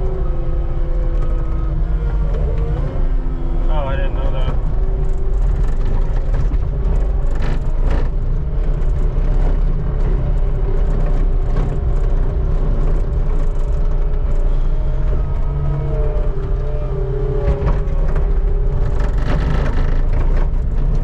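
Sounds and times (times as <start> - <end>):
skid steer engine under load: 0.0 - 21.0.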